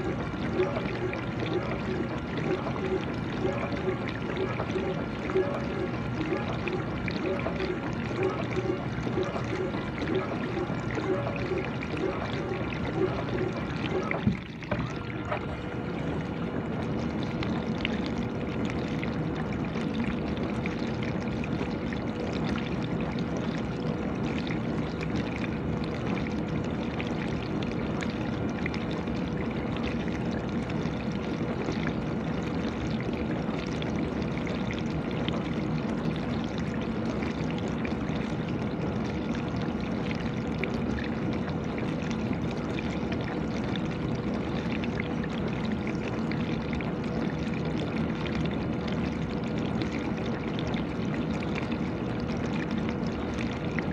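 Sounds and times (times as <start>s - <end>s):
pump hum: 0.0s - 53.9s.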